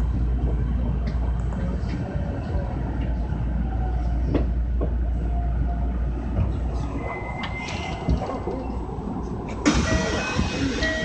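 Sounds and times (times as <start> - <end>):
train running low rumble: 0.0 - 11.0.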